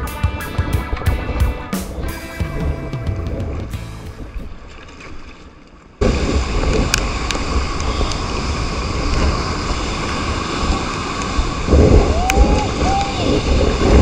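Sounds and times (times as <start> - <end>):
wind buffeting microphone: 0.0 - 5.3, 6.0 - 14.0
rough sea breaking: 0.2 - 14.0.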